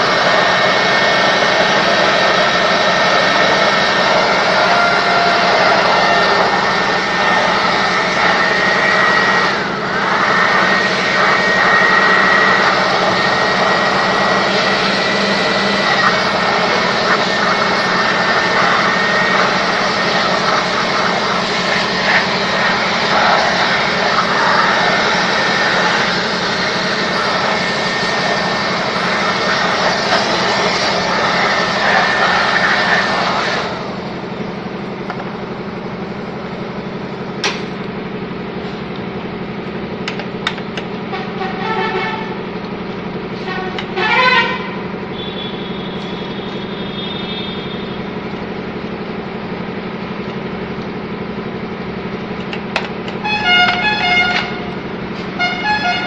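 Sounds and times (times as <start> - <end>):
electric air blower whining: 0.0 - 56.0.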